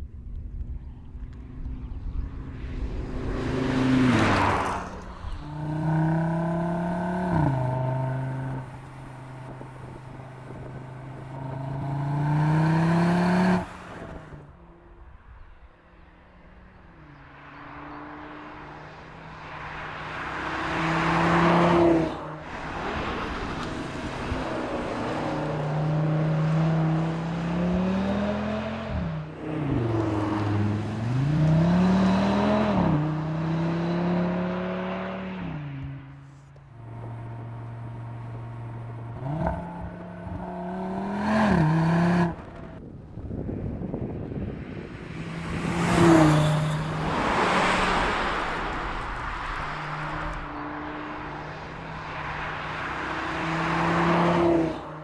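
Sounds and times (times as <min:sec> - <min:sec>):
car engine accelerating: 0:00.2 - 0:15.1, 0:16.4 - 0:42.9, 0:44.4 - 0:55.0.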